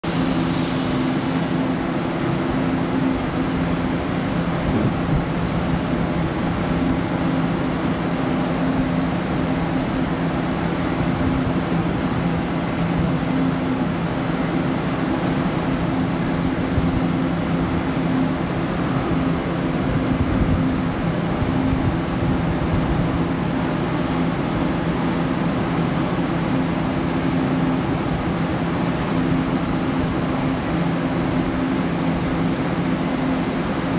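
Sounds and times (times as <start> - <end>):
faint high whine: 0.0 - 33.9
train machinery low hum: 0.0 - 33.9.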